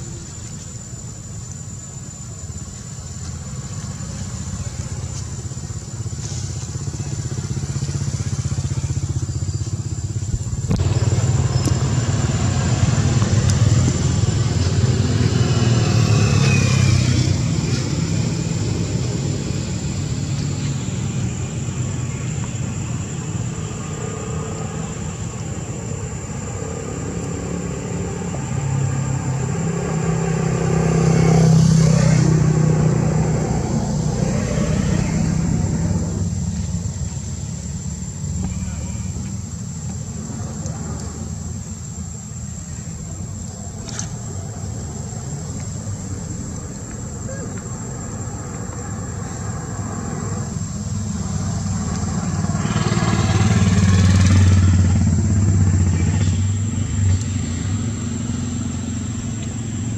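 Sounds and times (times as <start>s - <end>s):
motor vehicle engines humming: 0.0s - 59.9s.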